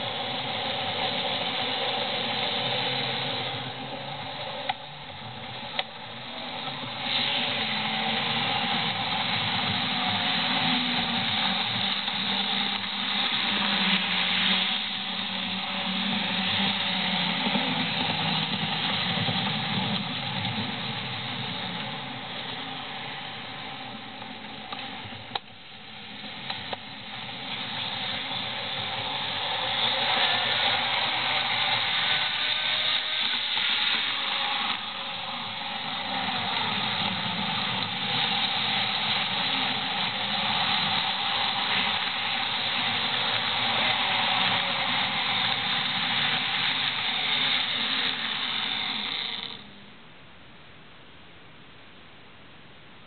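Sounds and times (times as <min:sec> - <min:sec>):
model train motors and wheels whirring: 0:00.0 - 0:50.0.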